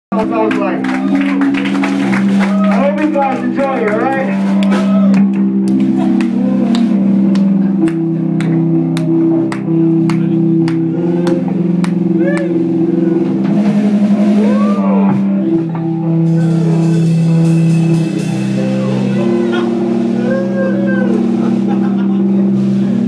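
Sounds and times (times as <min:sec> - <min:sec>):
live rock band playing: 0:00.1 - 0:23.0.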